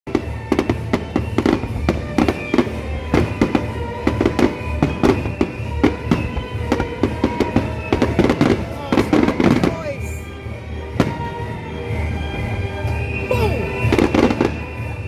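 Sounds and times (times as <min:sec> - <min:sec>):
fireworks bangs: 0:00.1 - 0:10.3, 0:10.9 - 0:15.0
music playing: 0:00.1 - 0:15.0.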